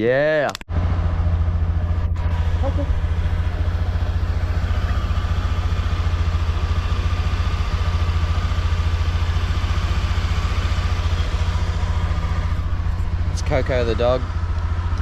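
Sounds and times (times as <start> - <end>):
small engine idling: 0.7 - 15.0.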